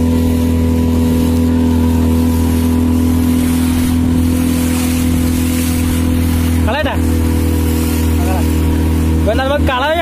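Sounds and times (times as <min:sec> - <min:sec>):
boat engine running: 0:00.0 - 0:10.0
water rushing along hull: 0:00.0 - 0:10.0.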